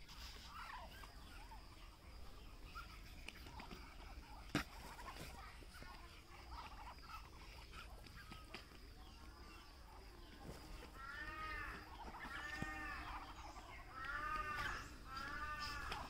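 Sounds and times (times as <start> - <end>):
ducks calling: 0.0 - 16.0.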